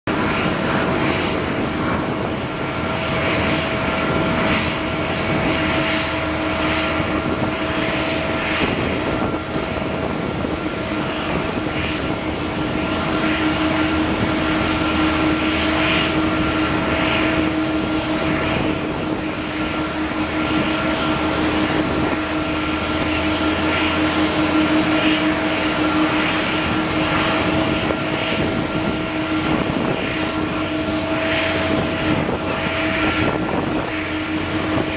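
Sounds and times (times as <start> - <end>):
jet engine whine: 0.0 - 34.9
continuous rushing noise: 0.1 - 34.9.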